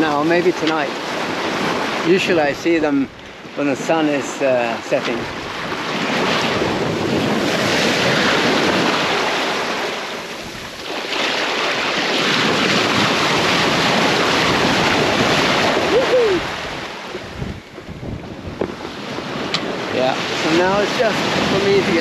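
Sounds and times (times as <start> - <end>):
sea water splashing along a hull: 0.0 - 22.0
wind buffeting the microphone: 0.0 - 22.0.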